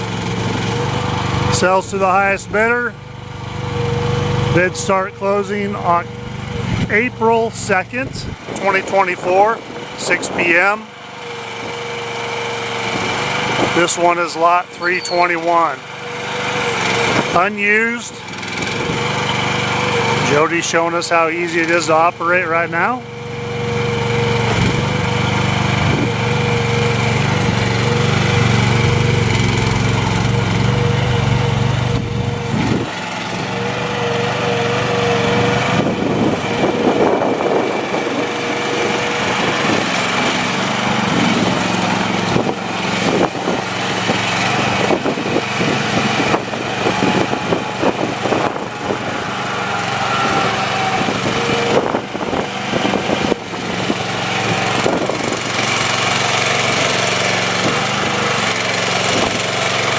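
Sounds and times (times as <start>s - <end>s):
steady whine: 0.0s - 10.9s, 13.6s - 56.9s
excavator engine running: 0.0s - 59.9s.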